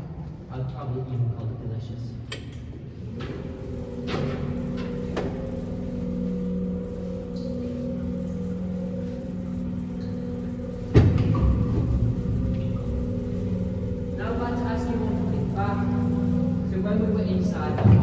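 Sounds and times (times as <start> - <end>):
heavy low rumble: 0.0 - 18.0
boat motor humming: 2.9 - 18.0.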